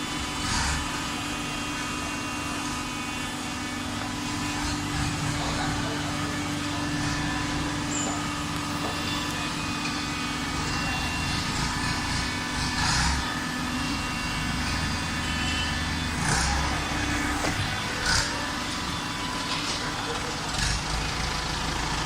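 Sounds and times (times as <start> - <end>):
baling machine humming: 0.0 - 22.0.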